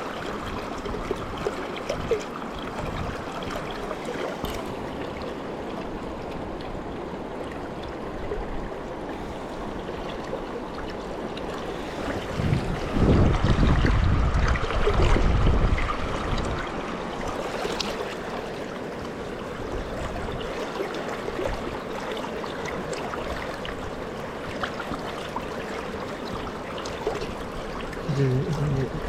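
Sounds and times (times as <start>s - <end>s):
river water rushing over rocks: 0.0s - 29.0s.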